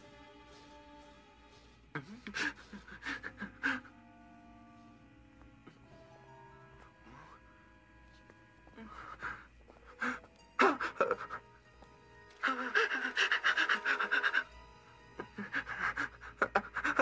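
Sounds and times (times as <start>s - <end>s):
quiet background music: 0.0s - 17.0s.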